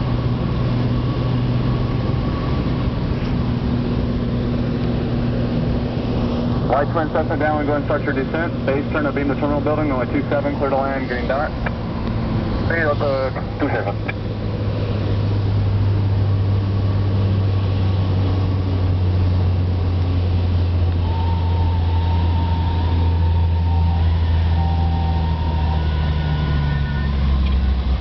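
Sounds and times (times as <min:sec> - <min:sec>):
aircraft engine and propeller droning: 0:00.0 - 0:28.0.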